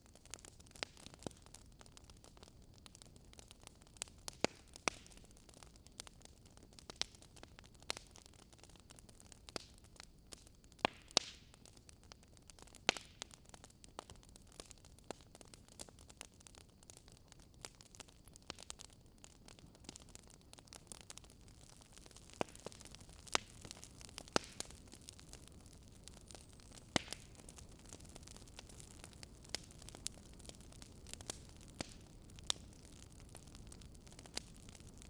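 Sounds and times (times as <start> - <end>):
faint steady hiss: 0.0 - 35.0
wood fire crackling: 0.0 - 35.0.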